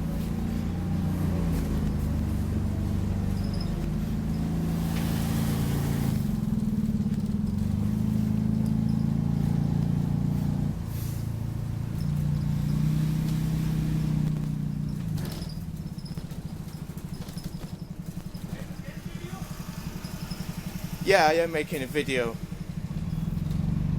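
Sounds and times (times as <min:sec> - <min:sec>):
bus diesel engine running: 0:00.0 - 0:23.9.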